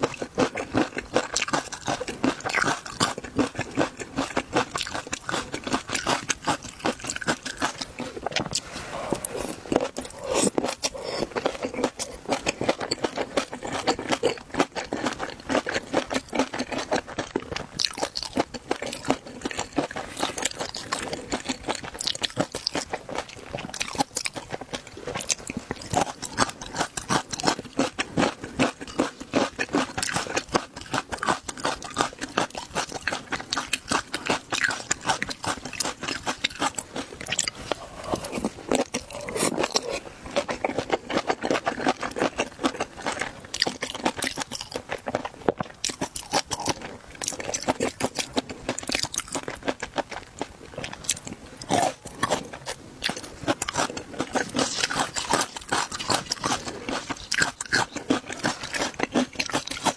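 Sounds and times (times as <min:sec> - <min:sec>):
shrimp crunching being chewed: 0:00.0 - 0:59.9.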